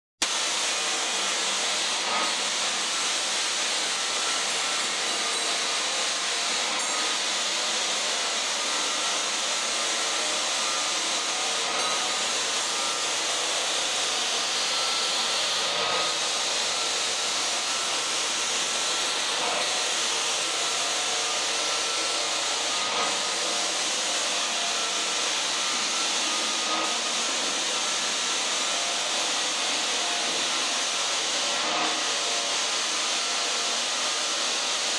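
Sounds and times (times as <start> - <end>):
floor sander running: 0.2 - 34.9.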